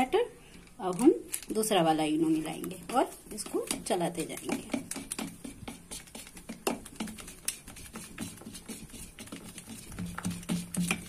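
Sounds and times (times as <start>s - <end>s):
spoon stirring thick batter: 0.8s - 11.0s.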